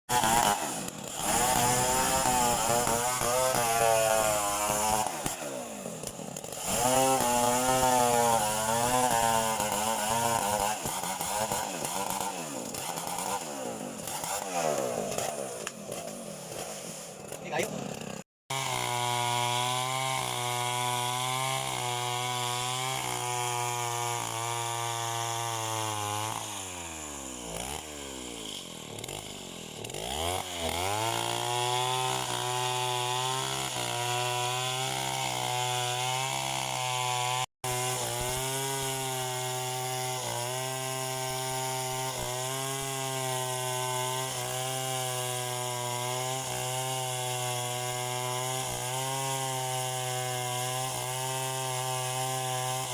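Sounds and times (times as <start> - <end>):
chainsaw engine revving: 0.1 - 52.9.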